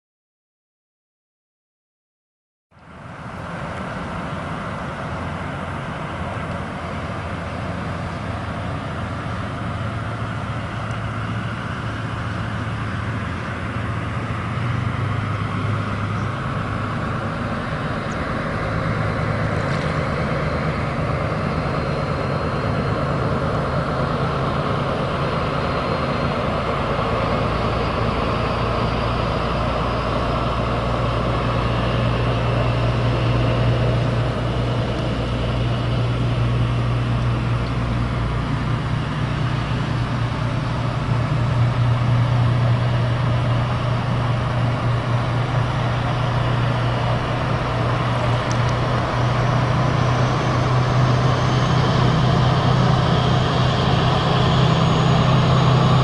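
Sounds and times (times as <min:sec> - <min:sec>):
boat diesel engine droning: 0:02.7 - 0:56.0.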